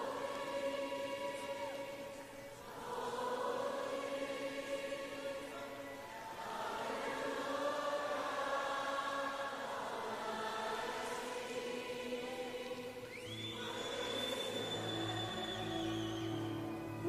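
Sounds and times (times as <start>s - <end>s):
crowd singing together: 0.0s - 17.0s.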